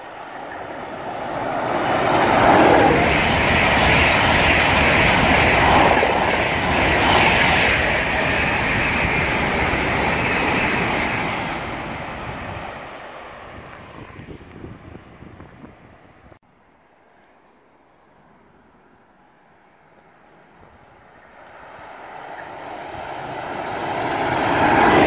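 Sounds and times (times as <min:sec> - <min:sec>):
express train passing at speed: 0:00.0 - 0:16.4, 0:18.2 - 0:25.0.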